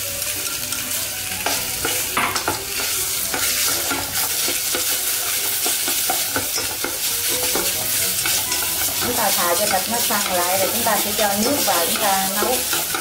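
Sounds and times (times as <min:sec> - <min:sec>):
meat sizzling in hot oil: 0:00.0 - 0:13.0
chopsticks scraping a pot: 0:00.7 - 0:13.0.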